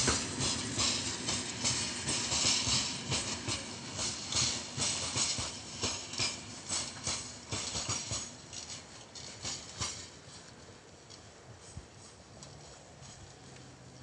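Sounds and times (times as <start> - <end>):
train wheels clicking over rail joints: 0.0 - 14.0.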